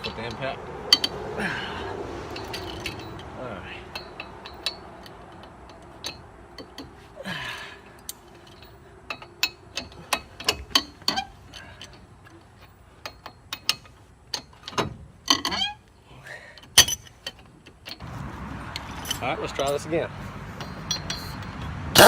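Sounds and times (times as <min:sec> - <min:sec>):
metal tools clicking and clinking: 0:00.0 - 0:18.0, 0:18.7 - 0:22.0.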